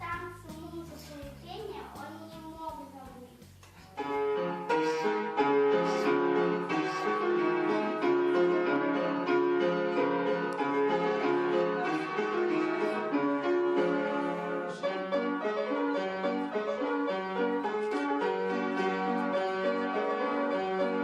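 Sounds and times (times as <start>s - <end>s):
piano playing quick notes: 3.4s - 21.0s.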